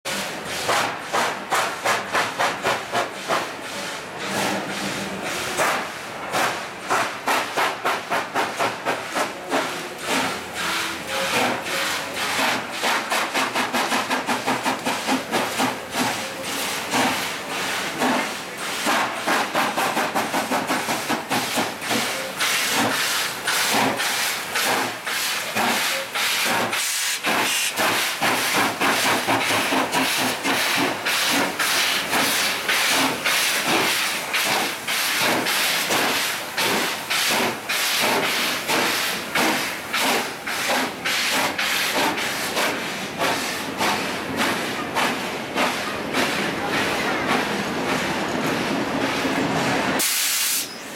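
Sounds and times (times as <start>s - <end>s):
steam hiss: 0.1s - 46.7s, 49.3s - 50.9s
steam locomotive chuffing: 0.1s - 50.9s.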